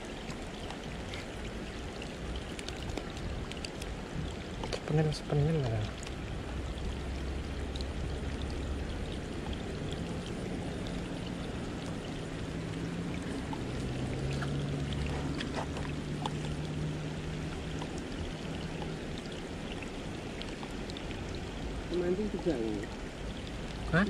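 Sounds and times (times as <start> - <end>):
rain falling on river: 0.0 - 24.0.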